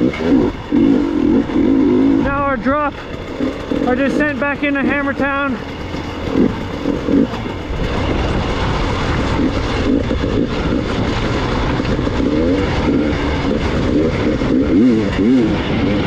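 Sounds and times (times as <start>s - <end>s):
motorcycle engine revving: 0.0s - 16.0s
knocks and rattles: 2.3s - 16.0s.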